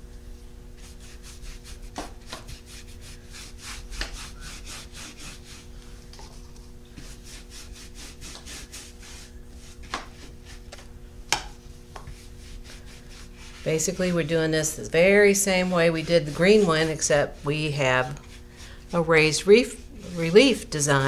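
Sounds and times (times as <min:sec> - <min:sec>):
brush scrubbing wax on frame: 0:00.8 - 0:05.7, 0:06.3 - 0:10.8, 0:11.6 - 0:21.0.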